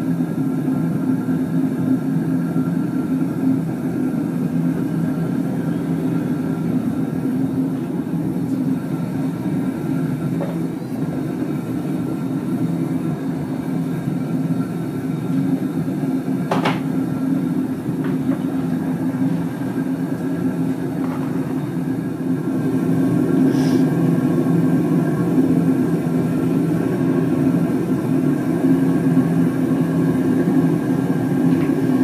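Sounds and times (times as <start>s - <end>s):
even low hum: 0.0s - 32.0s
furnace burner roaring: 0.0s - 32.0s.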